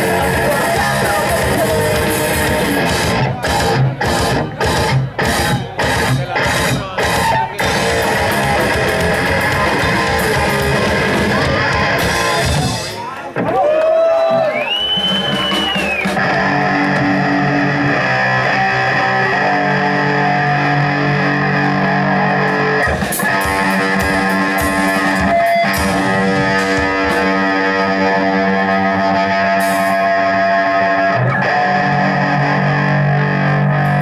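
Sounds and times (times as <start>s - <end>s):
distorted electric guitar chords: 0.0s - 13.5s, 16.0s - 34.0s.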